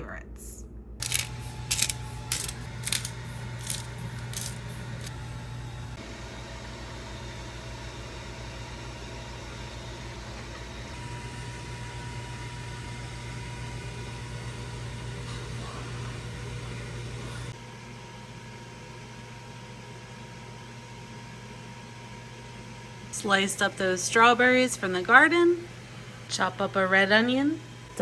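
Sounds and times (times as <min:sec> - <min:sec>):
air fryer fan hum: 0:01.0 - 0:28.0.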